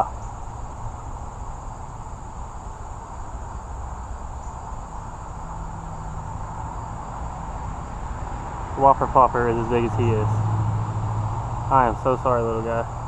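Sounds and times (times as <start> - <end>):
constant low rumble: 0.0 - 13.0
insect drone: 0.0 - 13.0.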